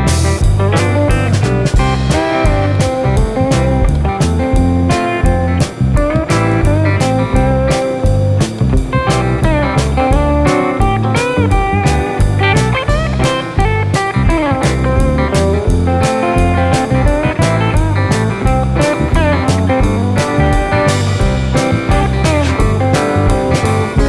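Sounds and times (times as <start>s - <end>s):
electric guitar with bent notes: 0.0s - 24.0s
steady drum beat: 0.0s - 24.0s.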